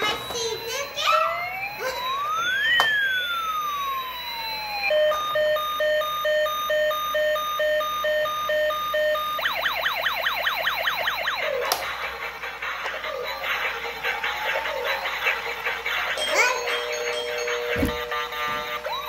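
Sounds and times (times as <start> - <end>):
toy electronic siren: 0.0 - 19.0.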